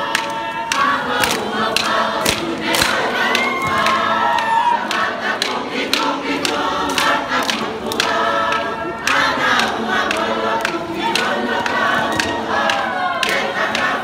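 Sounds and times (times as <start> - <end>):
group singing in chorus: 0.0 - 14.0
sharp claps: 0.0 - 14.0.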